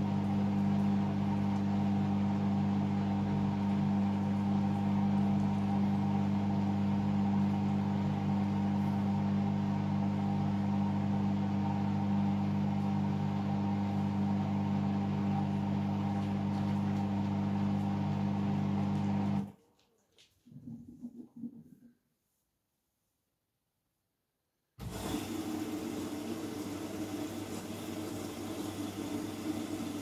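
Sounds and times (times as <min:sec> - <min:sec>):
washing machine drain pump humming: 0:00.0 - 0:19.5, 0:24.8 - 0:30.0.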